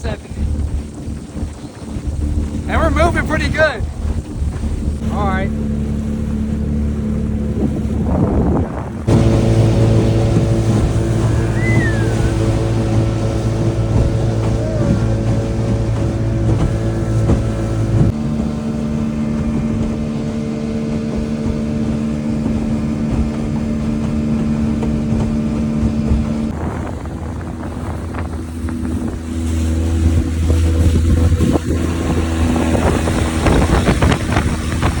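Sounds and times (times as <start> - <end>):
boat motor running: 0.0 - 35.0
wind on microphone: 0.0 - 35.0.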